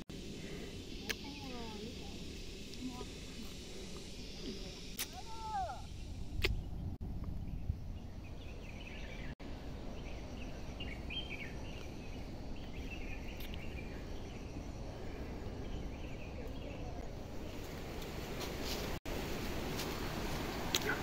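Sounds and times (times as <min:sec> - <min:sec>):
low rumble of wind: 0:00.0 - 0:21.0
small birds chirping: 0:00.2 - 0:18.1.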